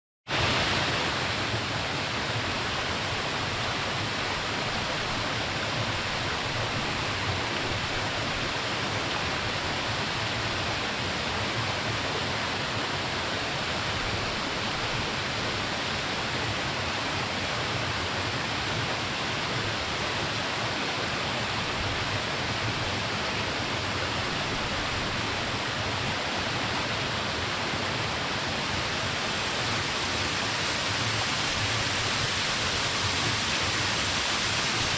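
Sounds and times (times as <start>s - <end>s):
small waterfall pouring: 0.3s - 34.9s.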